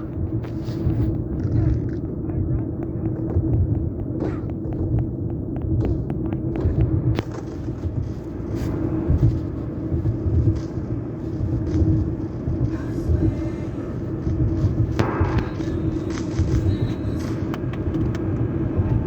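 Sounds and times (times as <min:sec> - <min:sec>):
car cabin road rumble: 0:00.0 - 0:19.0
constant hum: 0:00.0 - 0:19.0.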